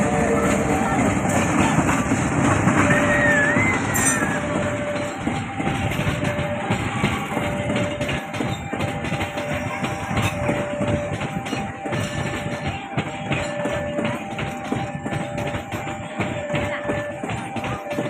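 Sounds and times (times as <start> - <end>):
train wheels clattering on tracks: 0.0 - 18.0.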